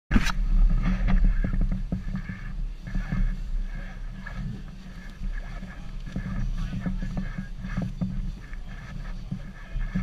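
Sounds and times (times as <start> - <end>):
camera handling rumble and rustling: 0.1 - 10.0.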